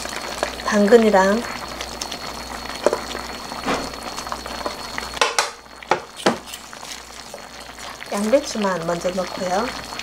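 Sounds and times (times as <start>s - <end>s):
sauce simmering and bubbling: 0.0s - 10.0s.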